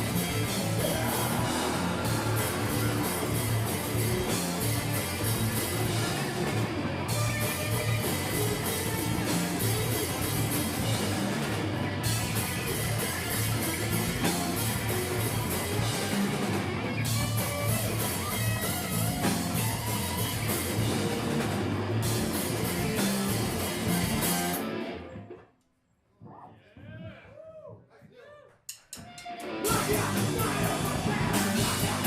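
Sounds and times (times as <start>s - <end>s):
rock band playing: 0.0s - 25.2s, 29.0s - 32.0s.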